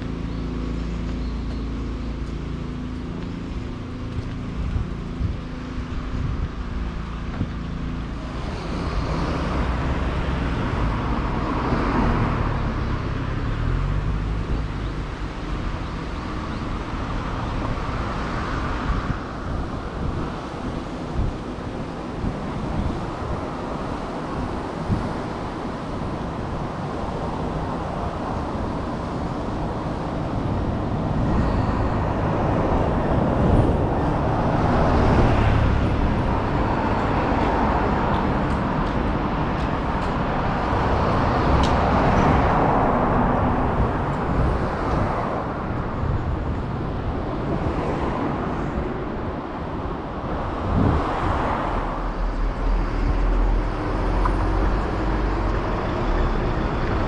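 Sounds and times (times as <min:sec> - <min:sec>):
cars and trucks passing: 0:00.0 - 0:57.0.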